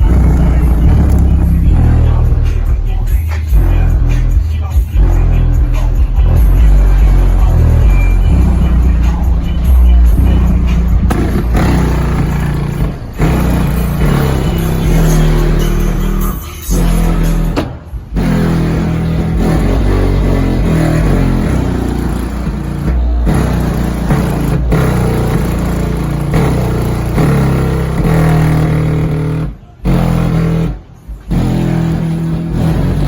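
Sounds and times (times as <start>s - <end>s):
bass-heavy music through subwoofers: 0.0s - 33.0s.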